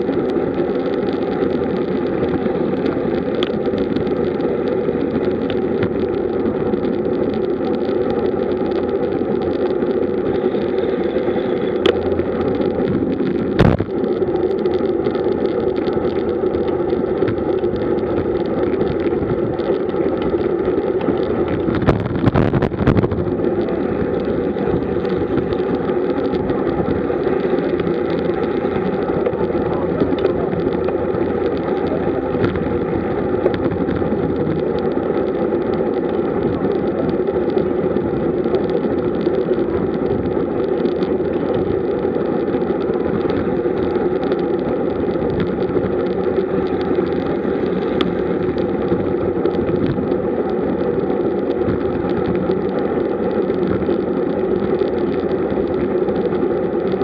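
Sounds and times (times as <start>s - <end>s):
bicycle road noise: 0.0s - 57.0s
constant low hum: 0.0s - 57.0s
wind on microphone: 0.0s - 57.0s.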